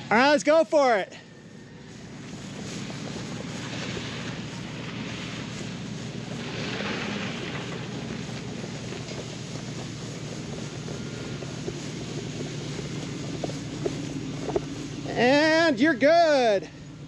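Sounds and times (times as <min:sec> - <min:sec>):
pickup truck engines under load: 0:00.0 - 0:17.0.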